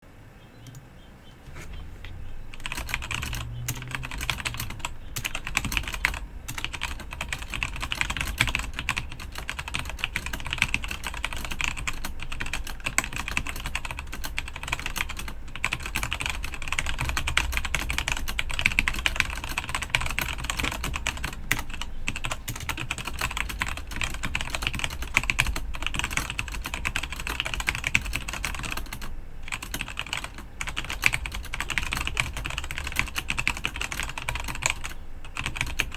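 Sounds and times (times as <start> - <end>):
mechanical keyboard typing: 2.5 - 35.9.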